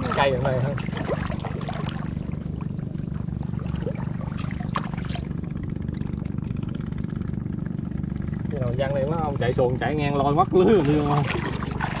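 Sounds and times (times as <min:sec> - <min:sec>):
light water splashes: 0:00.0 - 0:09.0, 0:10.6 - 0:12.0
water trickling: 0:00.0 - 0:09.0, 0:10.7 - 0:12.0
small boat motor humming: 0:00.0 - 0:12.0.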